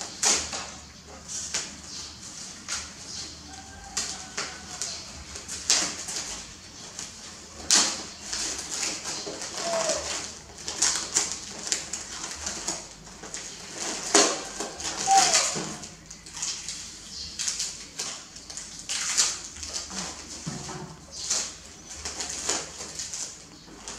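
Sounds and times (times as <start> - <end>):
cellophane crinkling: 2.2 - 23.9.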